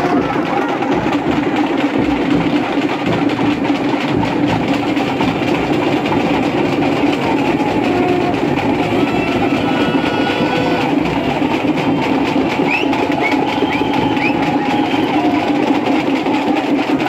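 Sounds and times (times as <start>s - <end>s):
festival crowd hubbub: 0.0s - 17.0s.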